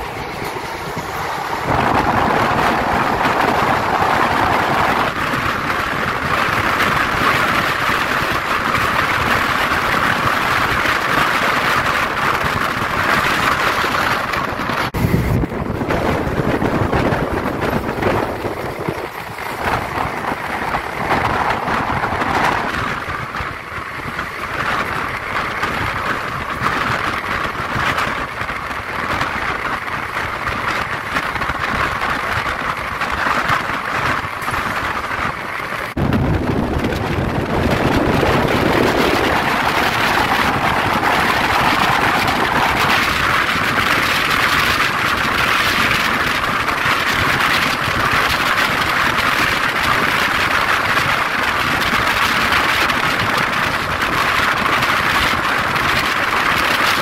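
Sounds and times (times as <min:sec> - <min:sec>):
train rushing at speed: 0:00.0 - 0:57.0.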